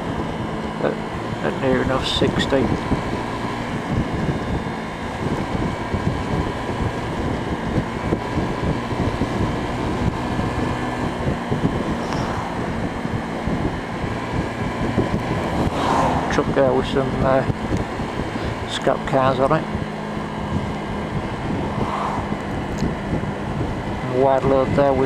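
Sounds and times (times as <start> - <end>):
scooter engine: 0.0 - 25.0
wind buffeting microphone: 0.0 - 25.0.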